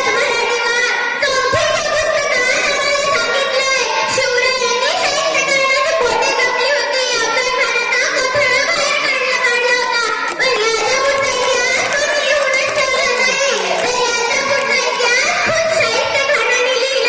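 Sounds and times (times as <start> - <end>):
girl chanting: 0.0 - 17.0.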